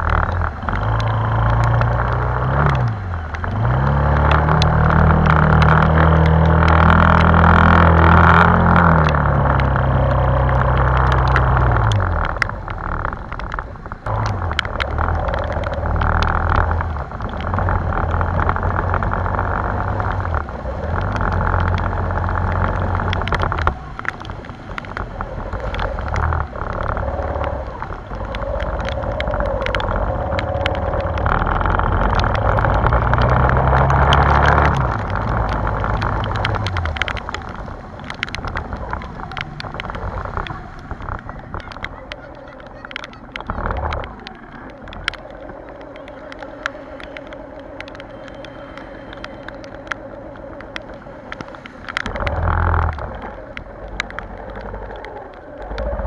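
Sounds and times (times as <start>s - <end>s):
motorbike engine: 0.0s - 50.5s
raindrops hitting camera: 0.0s - 56.0s.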